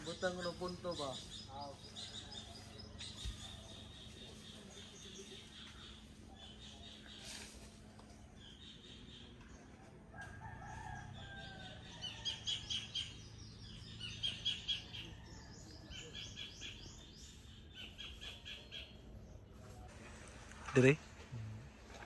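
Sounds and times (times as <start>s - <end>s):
birds chirping: 0.0s - 7.4s, 8.0s - 20.1s.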